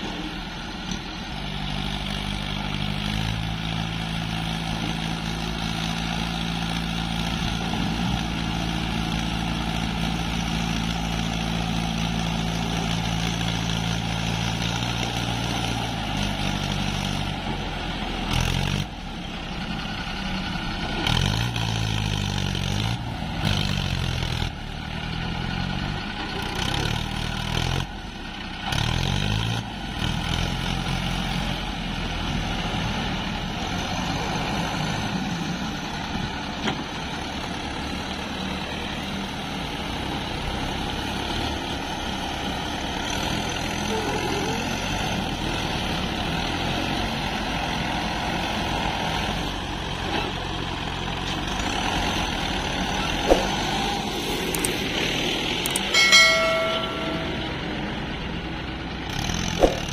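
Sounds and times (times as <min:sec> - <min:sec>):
tractor diesel engine revving: 0:00.0 - 0:55.9, 0:56.8 - 0:59.9.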